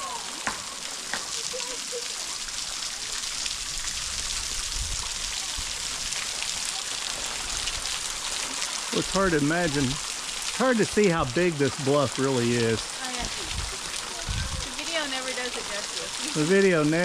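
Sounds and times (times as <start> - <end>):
waterfall hiss: 0.0 - 17.0.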